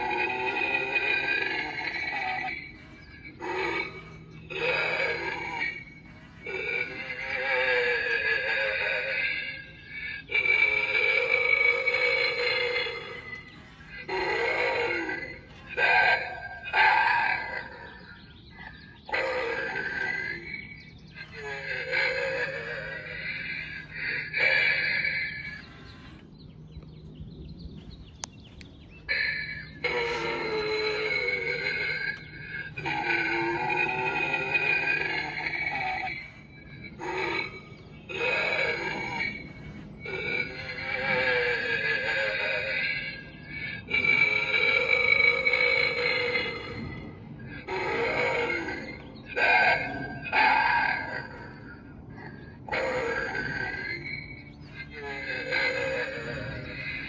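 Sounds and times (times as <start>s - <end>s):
zombie groaning sound effect: 0.0s - 26.2s, 29.1s - 57.0s
faint bird chirps: 0.0s - 57.0s.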